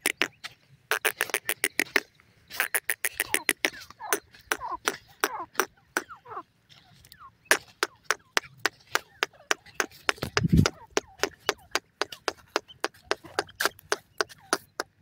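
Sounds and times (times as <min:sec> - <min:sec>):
francolins chirping: 0:00.0 - 0:15.0.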